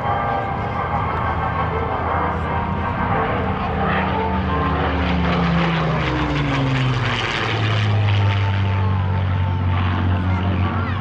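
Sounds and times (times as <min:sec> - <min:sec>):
aircraft engines droning past: 0:00.0 - 0:11.0.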